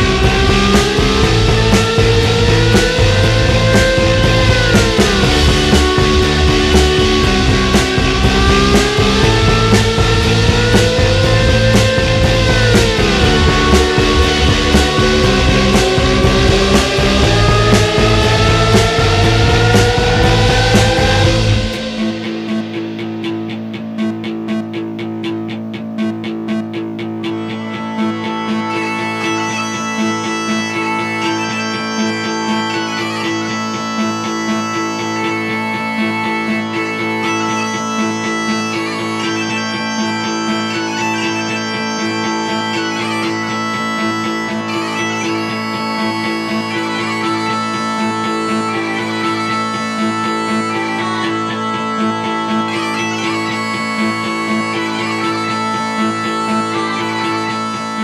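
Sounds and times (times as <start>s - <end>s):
held melody notes: 0.0s - 58.0s
low drone: 0.0s - 58.0s.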